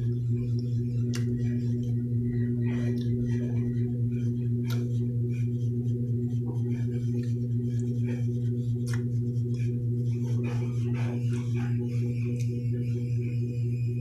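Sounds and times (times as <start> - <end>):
low electrical hum with buzz: 0.0 - 14.0.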